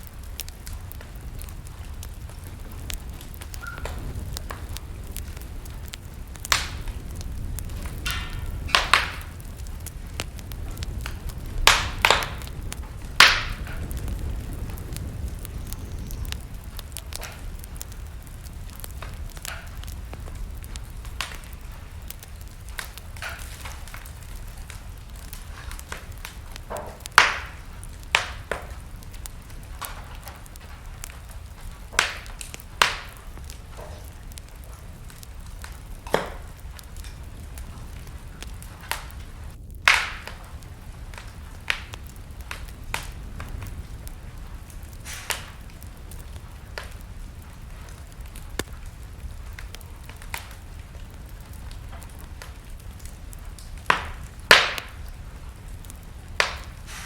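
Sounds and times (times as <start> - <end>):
burning logs crackling and popping: 0.0 - 57.0
low rumble of flames: 0.0 - 57.0.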